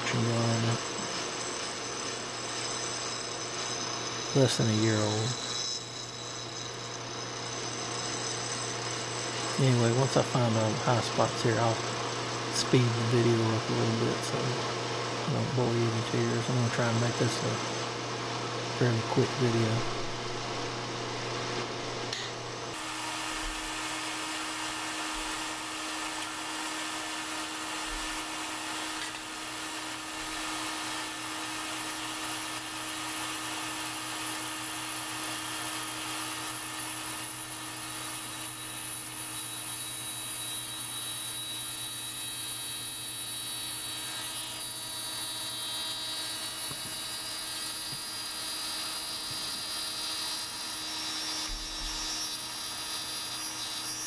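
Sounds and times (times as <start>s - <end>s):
milling machine cutting metal: 0.0s - 54.0s.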